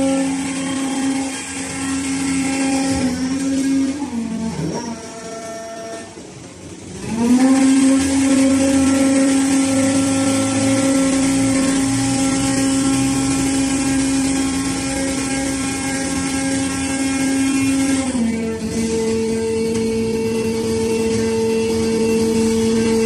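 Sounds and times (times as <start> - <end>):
hydraulic power unit whining: 0.0 - 23.0.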